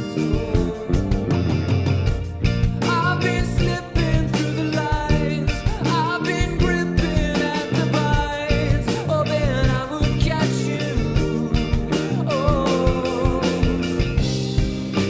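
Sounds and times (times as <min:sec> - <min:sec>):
alternative rock band playing: 0:00.0 - 0:15.0.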